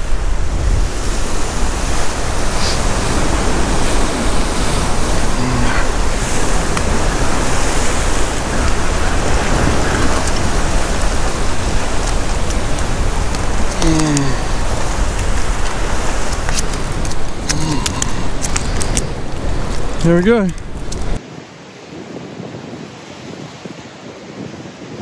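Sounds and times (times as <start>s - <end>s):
ocean surf washing over rocks: 0.0s - 25.0s
wind noise on microphone: 0.0s - 25.0s.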